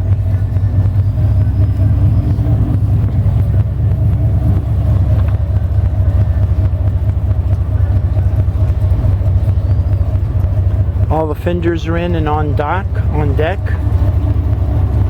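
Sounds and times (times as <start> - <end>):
diesel engines idling: 0.0 - 15.0.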